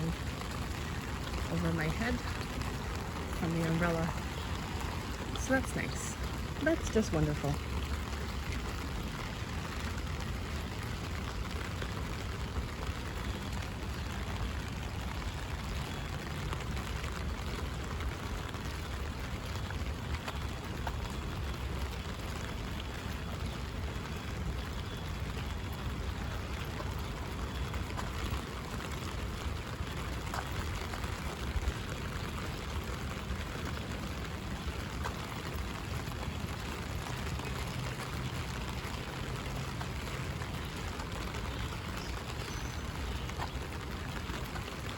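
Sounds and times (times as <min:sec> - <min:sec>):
rain pattering on an umbrella: 0:00.0 - 0:44.9.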